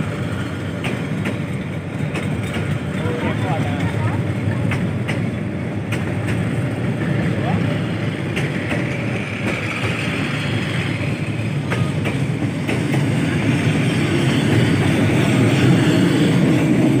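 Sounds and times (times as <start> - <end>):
train coaches rumbling: 0.0 - 17.0
wheels clicking over rail joints: 0.3 - 17.0.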